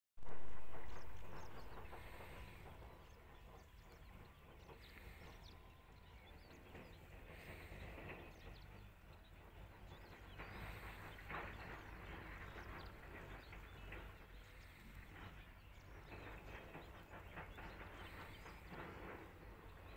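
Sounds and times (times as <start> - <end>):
wind rumble: 0.2 - 19.9.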